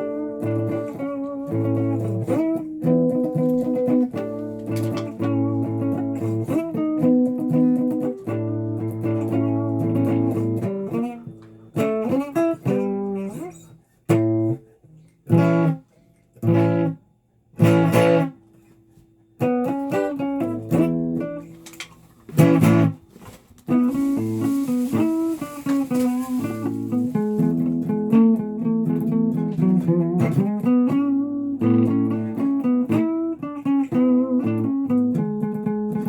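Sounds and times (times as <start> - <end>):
guitar strumming chords: 0.0 - 17.0, 17.6 - 18.7, 19.4 - 36.0.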